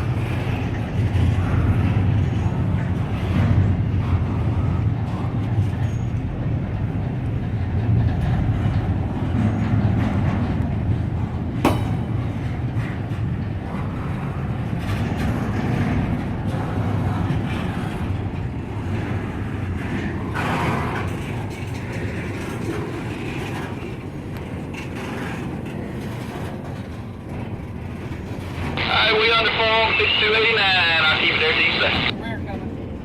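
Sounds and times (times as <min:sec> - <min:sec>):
freight train cars rolling past: 0:00.0 - 0:33.0.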